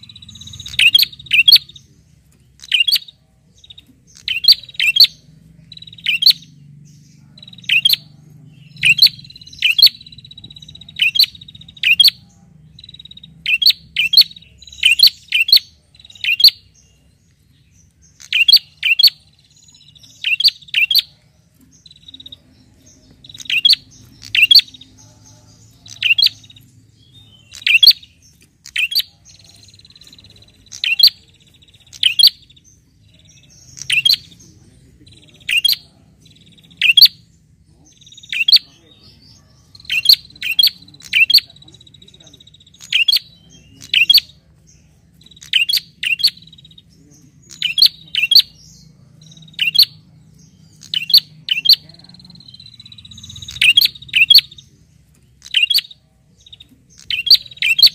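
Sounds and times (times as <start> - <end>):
bird sharp chirps: 0.0 - 57.9.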